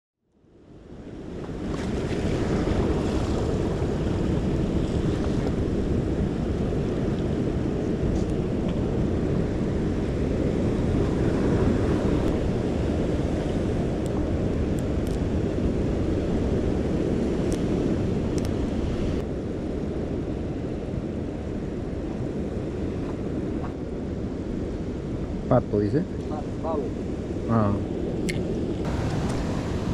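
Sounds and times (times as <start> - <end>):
wind rumbling on microphone: 0.4 - 29.9
surf washing on rocky shore: 0.9 - 29.9.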